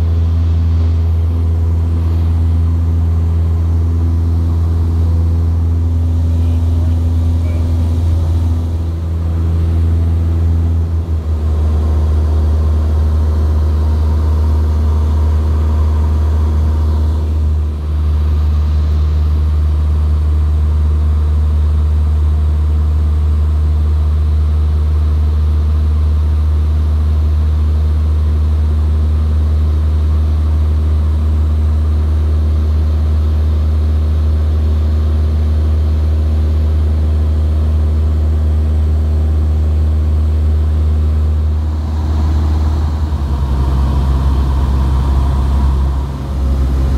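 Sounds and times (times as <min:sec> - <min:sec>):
propeller plane engine droning: 0:00.0 - 0:46.9.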